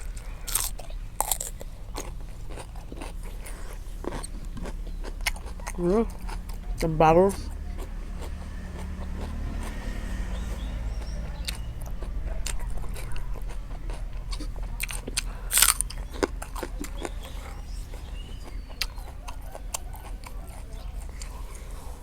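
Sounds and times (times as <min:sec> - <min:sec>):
person chewing and crunching food: 0:00.0 - 0:22.0.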